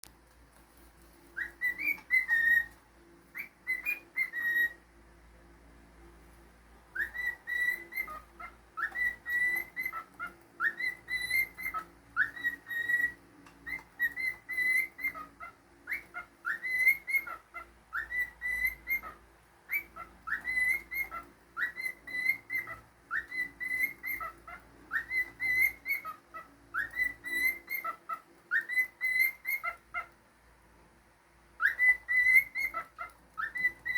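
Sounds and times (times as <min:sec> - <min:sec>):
cockatiel whistling a tune: 0:01.3 - 0:04.8, 0:06.9 - 0:30.1, 0:31.6 - 0:33.9.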